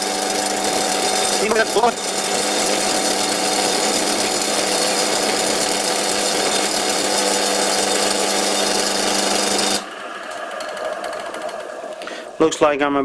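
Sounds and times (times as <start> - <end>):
lathe tool cutting metal: 0.0 - 12.4
lathe motor hum: 0.0 - 12.5.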